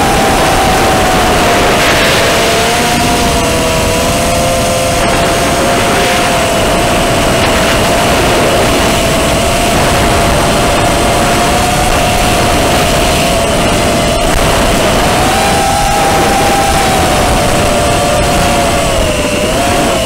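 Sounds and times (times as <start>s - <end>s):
drone motors whining: 0.0s - 20.0s
wind rumble on microphone: 0.0s - 20.0s.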